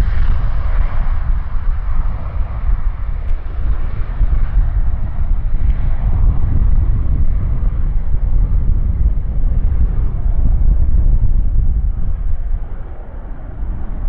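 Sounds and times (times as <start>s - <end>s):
jet engines roaring at take-off: 0.0s - 14.0s
wind on microphone: 0.0s - 14.0s.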